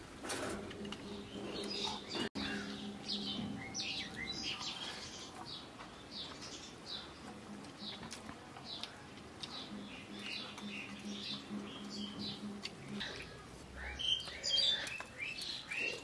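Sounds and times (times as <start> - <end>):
small birds chirping: 0.7 - 16.0.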